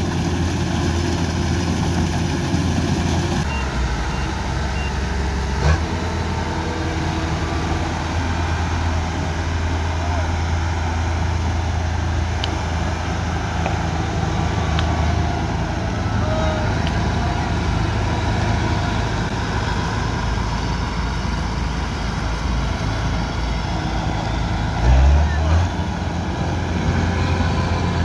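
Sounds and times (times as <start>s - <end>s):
combine harvester engine hum: 0.0s - 28.0s.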